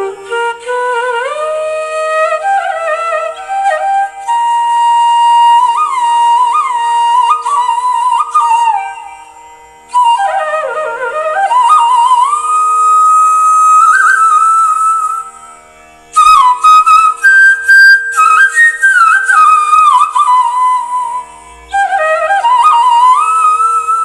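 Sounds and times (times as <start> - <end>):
ornamented flute melody: 0.0 - 24.0.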